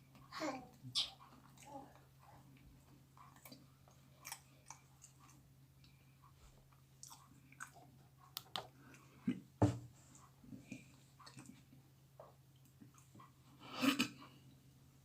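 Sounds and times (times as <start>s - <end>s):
person chewing food: 1.2s - 9.6s, 10.2s - 14.5s.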